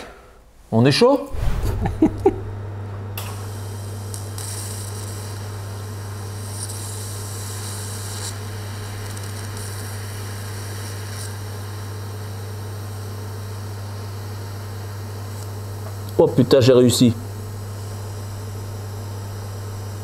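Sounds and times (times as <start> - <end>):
welder arc humming: 1.3 - 20.0.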